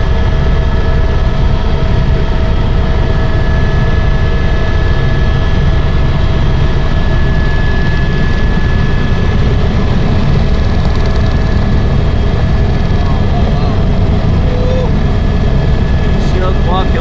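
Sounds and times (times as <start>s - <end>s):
helicopter running: 0.0s - 17.0s.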